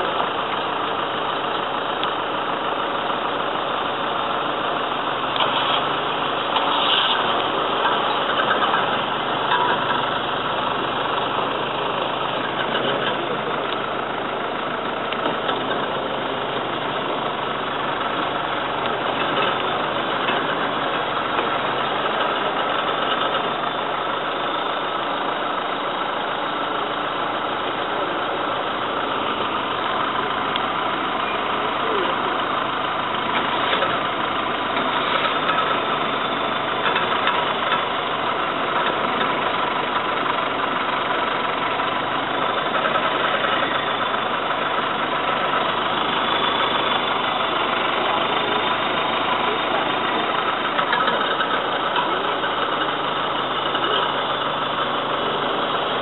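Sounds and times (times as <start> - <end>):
jeep engine idling: 0.0 - 56.0.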